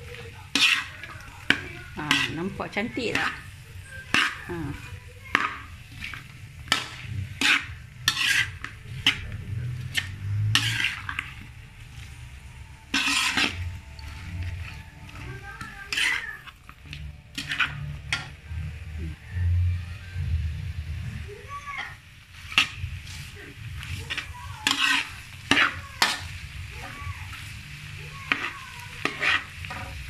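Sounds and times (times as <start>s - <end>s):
metal spatula scraping a wok: 0.0s - 30.0s.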